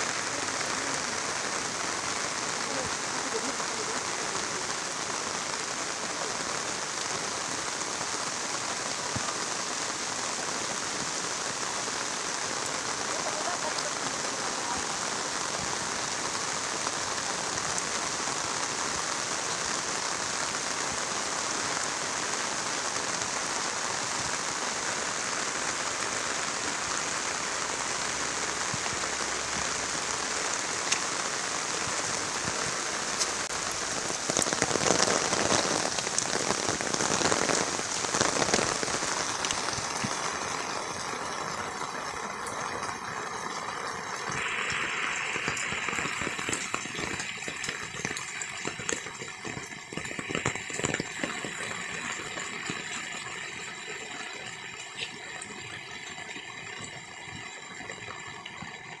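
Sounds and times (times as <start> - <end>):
rain falling on road: 0.0 - 59.0
sharp rain patters: 0.0 - 59.0.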